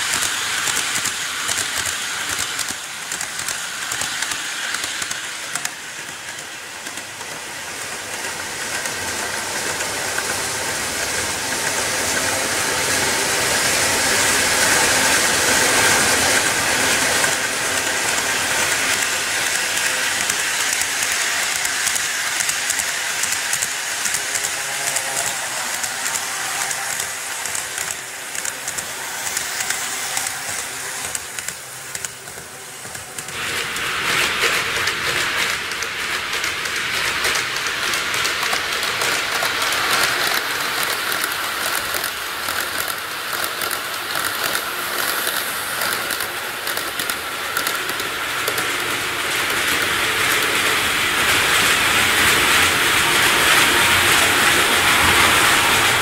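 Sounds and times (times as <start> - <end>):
model train rolling whir: 0.0 - 56.0.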